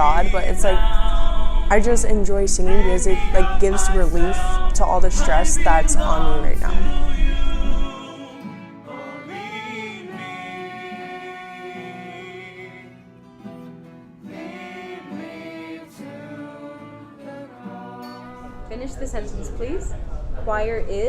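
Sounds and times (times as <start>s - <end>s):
choir singing in harmony: 0.0s - 13.1s, 14.2s - 19.7s.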